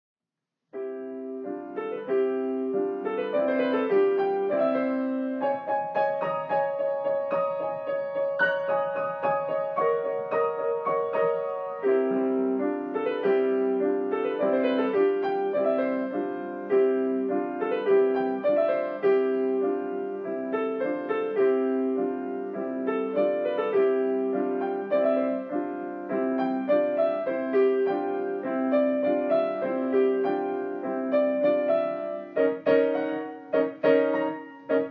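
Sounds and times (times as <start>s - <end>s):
solo piano: 0.7s - 34.9s.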